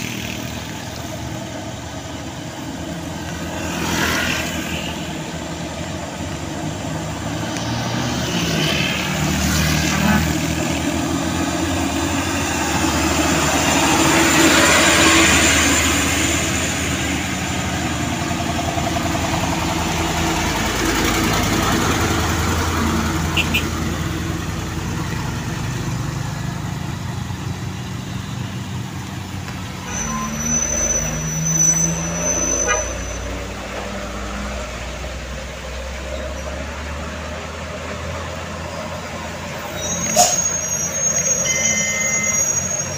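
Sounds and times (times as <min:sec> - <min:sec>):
vehicle engines passing: 0:00.0 - 0:42.9.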